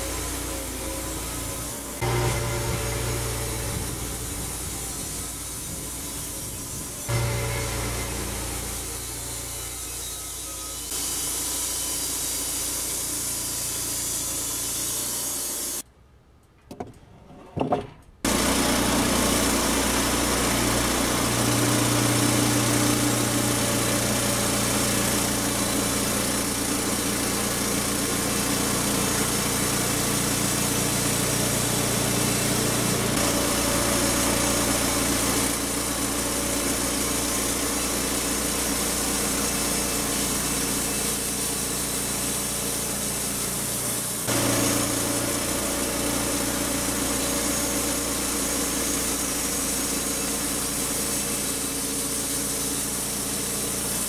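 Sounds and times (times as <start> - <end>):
band sawmill cutting log: 0.0 - 15.8, 18.2 - 54.0.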